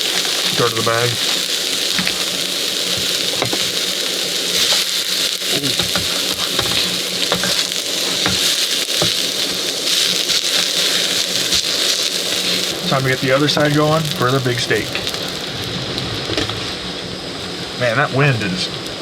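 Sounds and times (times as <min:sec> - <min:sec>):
food sizzling on a stove: 0:00.0 - 0:19.0.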